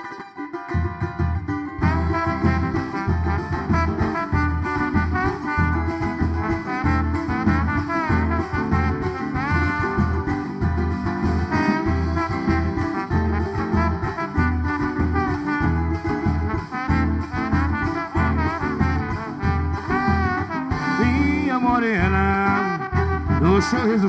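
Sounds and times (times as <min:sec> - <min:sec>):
band playing instrumental music: 0:00.8 - 0:24.0.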